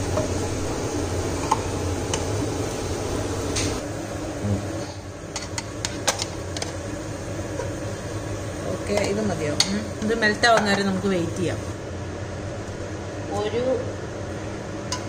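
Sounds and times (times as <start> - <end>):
onions frying in oil: 0.0 - 15.0
steady low hum: 0.0 - 15.0.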